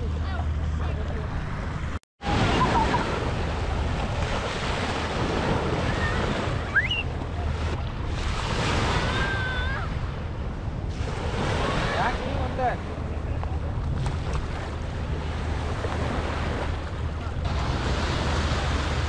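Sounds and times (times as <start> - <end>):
small waves breaking on sand: 2.2 - 13.2, 13.8 - 19.0.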